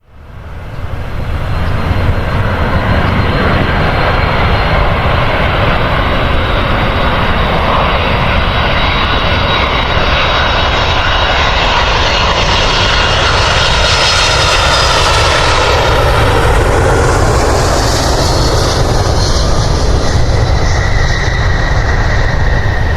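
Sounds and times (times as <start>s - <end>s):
airliner engines running: 0.0s - 22.9s.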